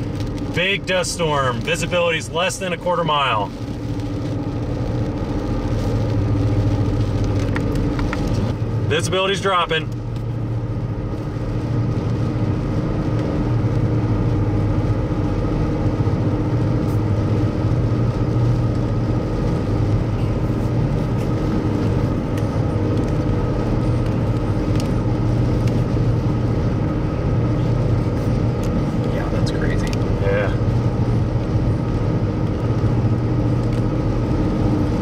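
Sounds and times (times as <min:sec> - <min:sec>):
constant low hum: 0:00.0 - 0:35.0.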